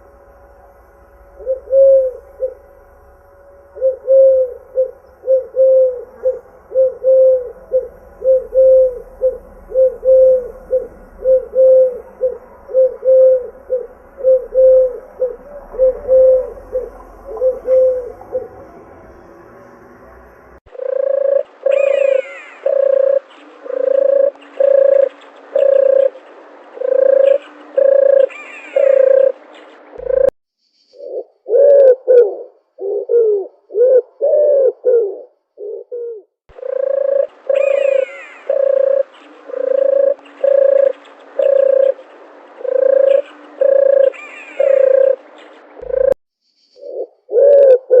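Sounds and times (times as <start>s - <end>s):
dove cooing: 1.4s - 2.6s, 3.8s - 18.8s, 20.7s - 30.3s, 31.0s - 46.2s, 46.8s - 48.0s.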